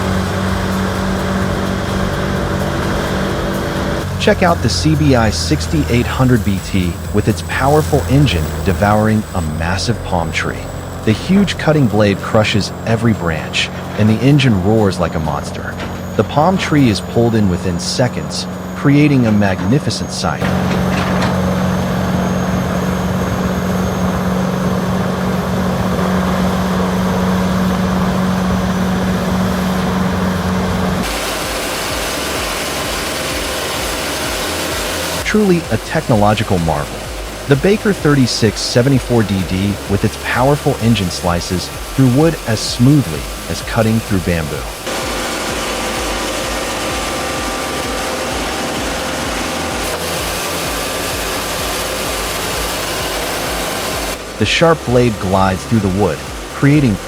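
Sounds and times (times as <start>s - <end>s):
sawmill blade cutting wood: 0.0s - 57.0s
wood grinder engine droning: 0.0s - 57.0s.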